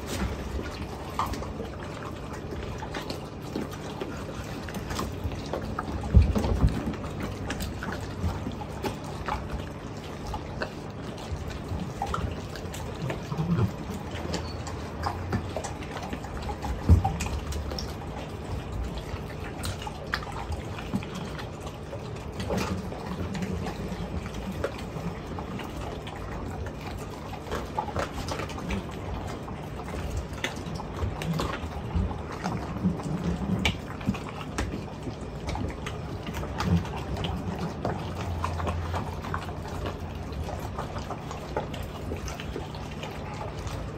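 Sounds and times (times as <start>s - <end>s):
dogs chewing wet food: 0.0s - 43.9s
low steady hum: 0.0s - 43.9s.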